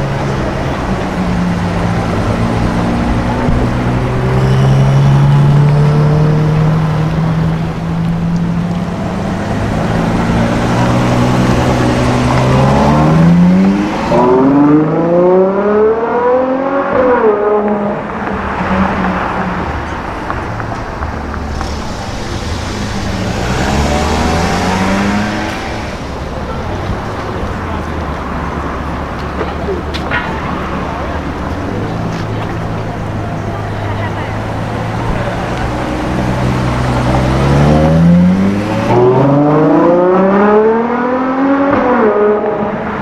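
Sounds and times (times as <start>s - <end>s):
sports car engine accelerating: 0.0s - 43.0s.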